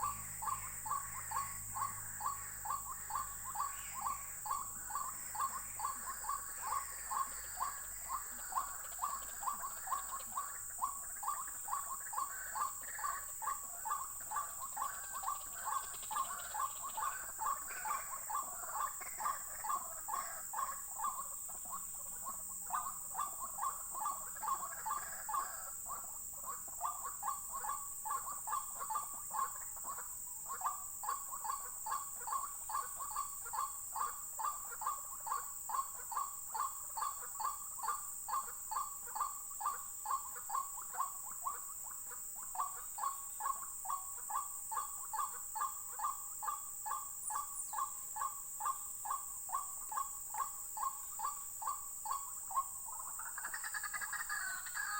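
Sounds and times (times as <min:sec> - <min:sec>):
fainter higher bird calls: 0:00.0 - 0:54.9.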